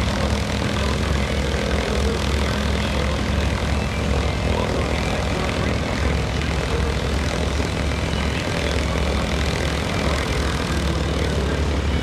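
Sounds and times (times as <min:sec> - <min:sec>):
radial engines idling: 0:00.0 - 0:12.0.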